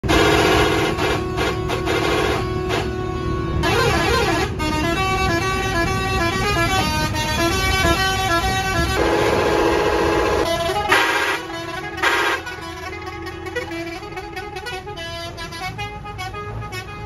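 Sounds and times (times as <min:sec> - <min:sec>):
bus horn stepped notes: 0:00.0 - 0:17.0
engine and road rumble: 0:00.0 - 0:17.0.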